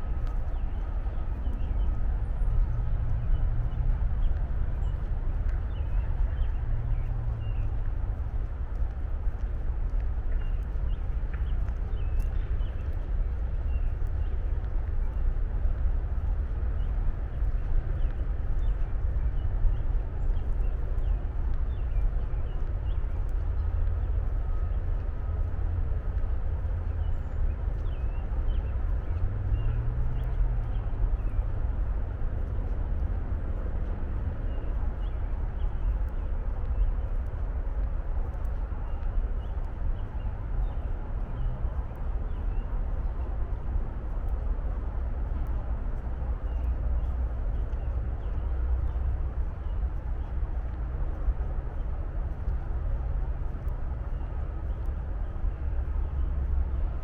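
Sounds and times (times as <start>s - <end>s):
distant traffic rumble: 0.0s - 57.0s.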